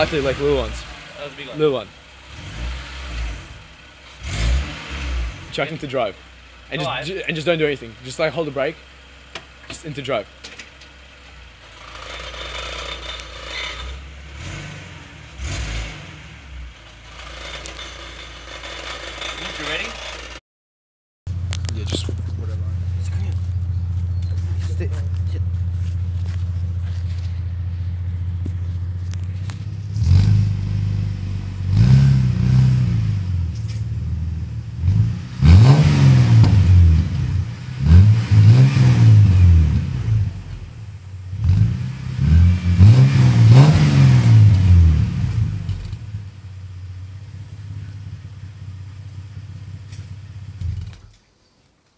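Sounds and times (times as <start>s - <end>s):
car engine idling and revving: 0.0s - 20.4s, 21.3s - 51.3s.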